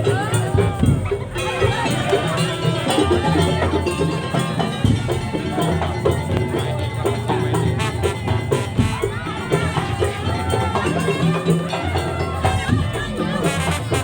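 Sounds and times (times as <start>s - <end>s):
pitched melody line: 0.0s - 14.0s
struck percussion ensemble: 0.0s - 14.0s.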